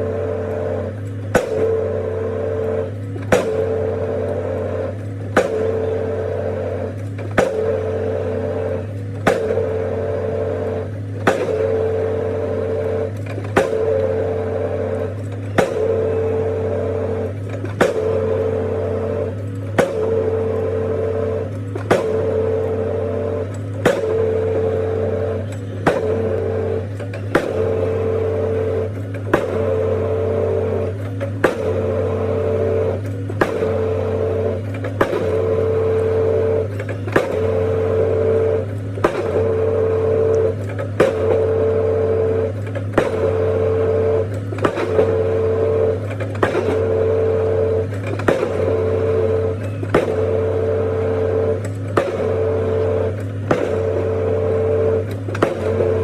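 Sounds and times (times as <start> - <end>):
excavator engine humming: 0.0 - 56.0
pile hammer striking concrete: 0.2 - 56.0.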